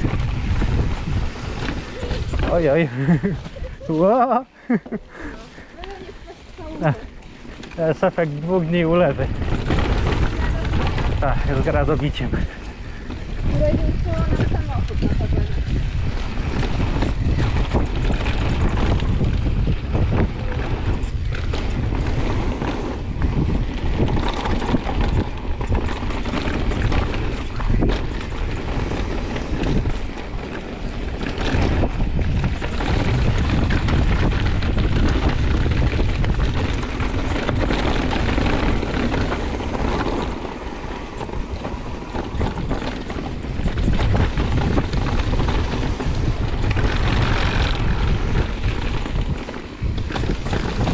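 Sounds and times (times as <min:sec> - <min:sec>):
bike tyres rolling over dirt: 0:00.0 - 0:50.9
wind over microphone: 0:00.0 - 0:50.9
bike knocks and rattles: 0:06.6 - 0:50.9.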